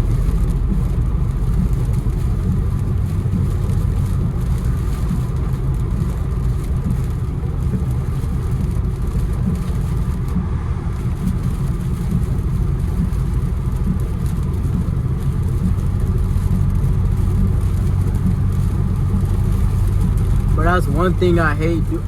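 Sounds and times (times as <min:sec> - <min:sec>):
engine and tyre drone: 0:00.0 - 0:22.0
wet road hiss: 0:00.0 - 0:22.0.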